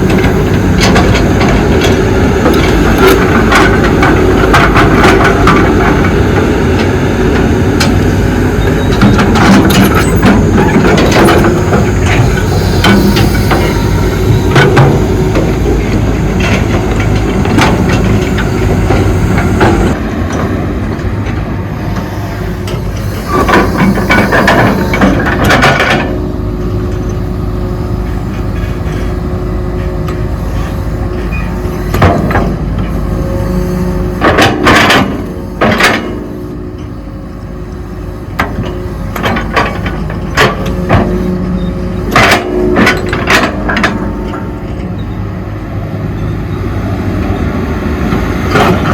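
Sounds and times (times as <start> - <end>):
clanking and scraping: 0.0 - 37.0, 38.4 - 45.1, 48.1 - 48.9
excavator diesel engine running: 0.0 - 48.9.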